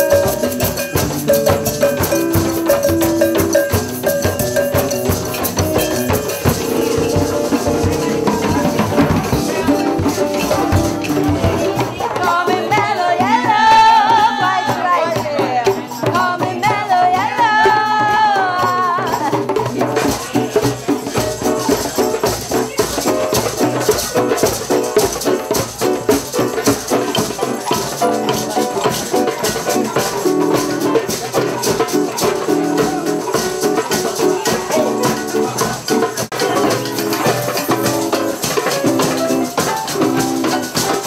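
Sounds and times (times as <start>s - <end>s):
djembe drums playing: 0.0s - 41.0s
rattling percussion: 0.0s - 41.0s.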